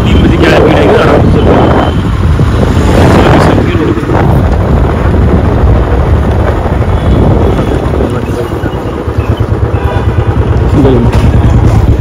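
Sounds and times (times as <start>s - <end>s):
vehicle engine and road noise: 0.0s - 12.0s
wind rumble on microphone: 0.0s - 12.0s.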